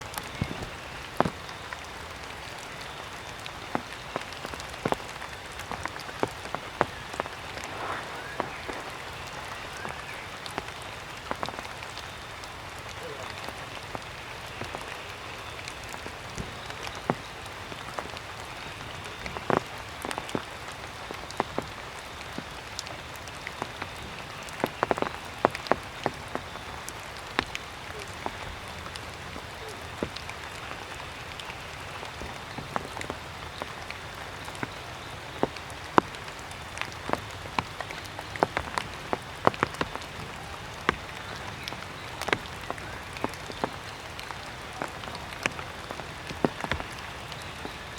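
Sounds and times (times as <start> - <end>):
steady background hiss: 0.0 - 47.9
water dripping from foliage: 0.0 - 47.9.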